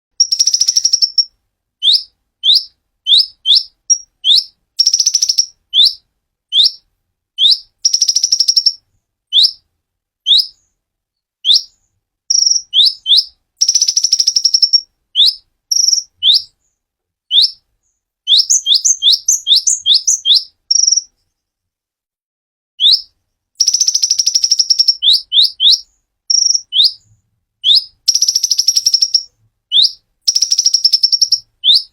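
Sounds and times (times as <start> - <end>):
songbird chirping and trilling: 0.2 - 21.3, 22.8 - 31.9.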